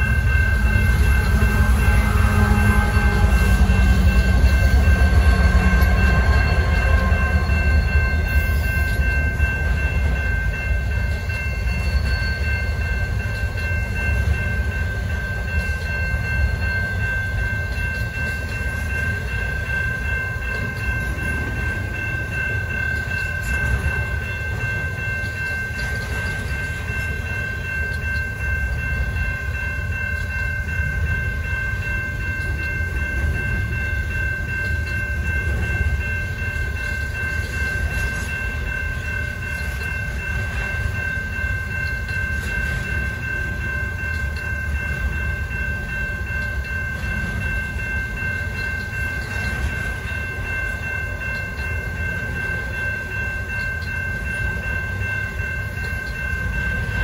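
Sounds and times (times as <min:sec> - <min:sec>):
crossing warning bell ringing: 0:00.0 - 0:57.0
freight train rumbling: 0:00.0 - 0:57.0.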